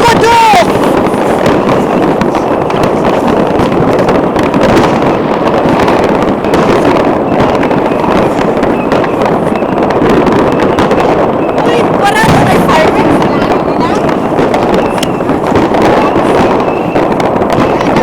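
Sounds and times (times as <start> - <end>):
fireworks crackling and popping: 0.0 - 18.0.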